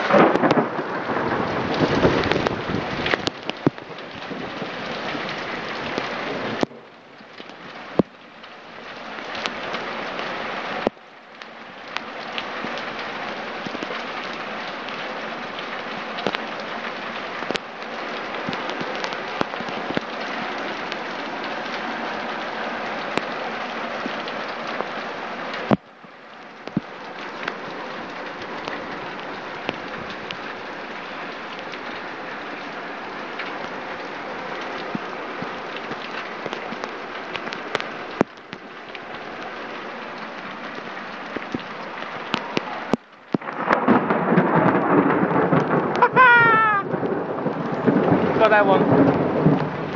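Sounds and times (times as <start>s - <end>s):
torrential rain pouring: 0.0s - 49.9s.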